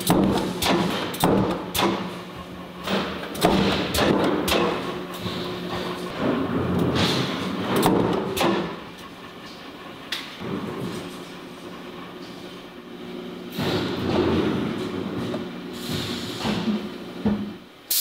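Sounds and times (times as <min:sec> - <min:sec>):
machine hum: 0:00.0 - 0:17.9.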